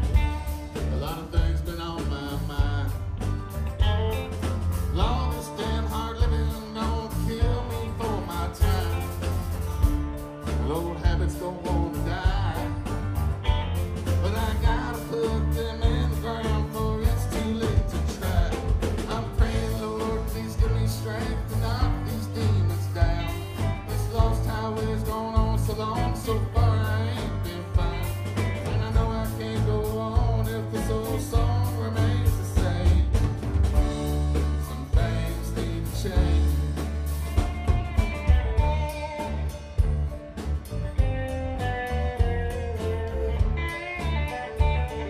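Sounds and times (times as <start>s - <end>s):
man singing lead vocal: 0.0s - 3.5s, 4.8s - 37.4s
live country-rock band playing: 0.0s - 45.0s
steady drum beat: 0.0s - 45.0s.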